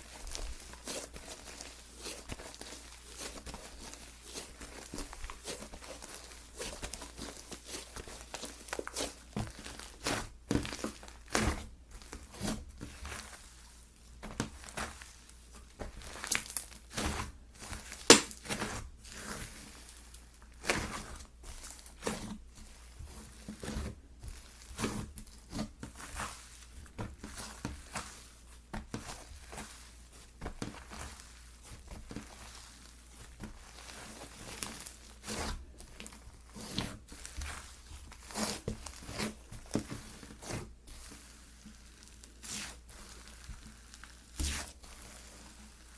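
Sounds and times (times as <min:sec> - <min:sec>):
slime squished by hand: 0:00.0 - 0:13.5, 0:14.2 - 0:45.9.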